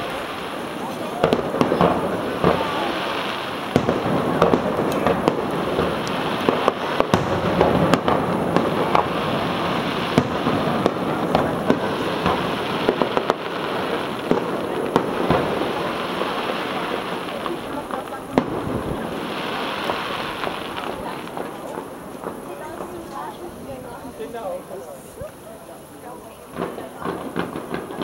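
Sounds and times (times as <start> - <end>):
fireworks bangs and cracks: 0.0 - 28.0.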